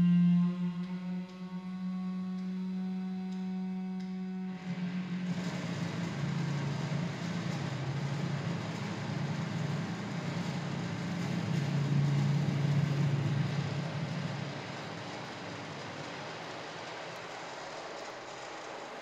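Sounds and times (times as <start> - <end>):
low wavering electronic drone: 0.0 - 17.2.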